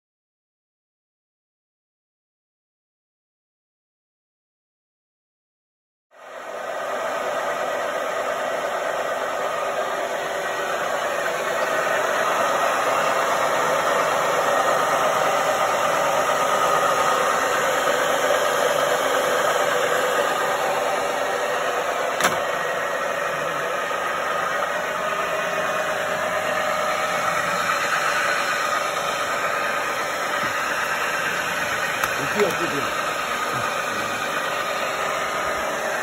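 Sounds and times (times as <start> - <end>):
drill press humming: 6.2 - 36.0.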